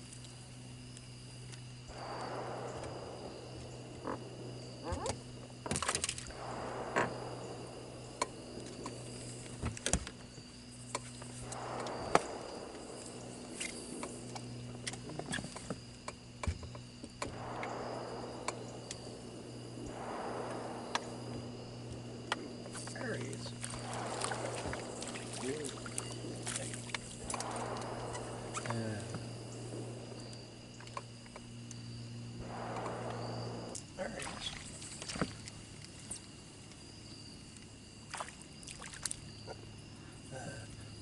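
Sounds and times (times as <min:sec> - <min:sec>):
high insect trill: 0:00.0 - 0:41.0
frog chorus: 0:01.5 - 0:41.0.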